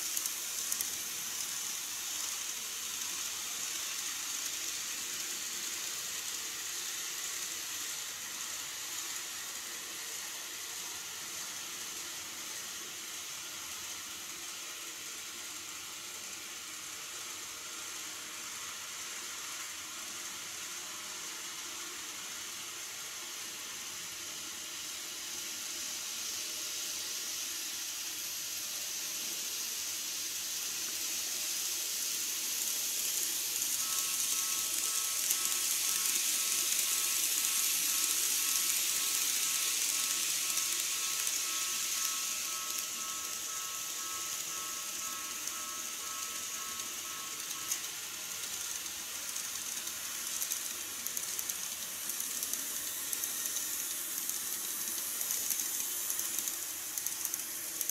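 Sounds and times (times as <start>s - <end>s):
model train wheels and motors hissing: 0.0s - 57.9s.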